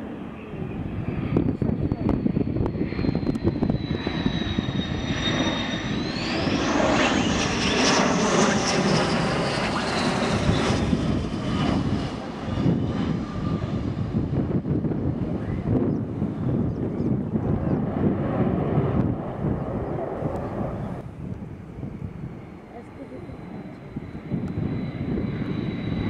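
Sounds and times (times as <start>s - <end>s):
jet engines passing overhead: 0.0s - 26.0s.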